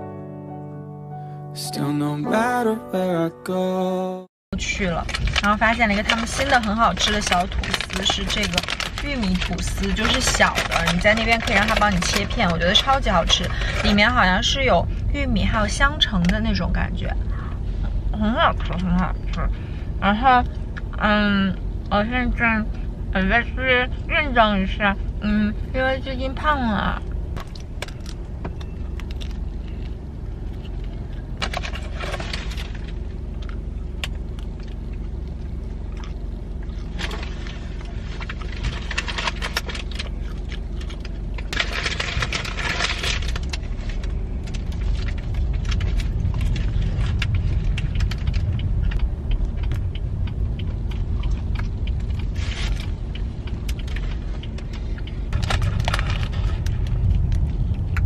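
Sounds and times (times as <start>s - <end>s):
low rumble: 4.5s - 58.0s.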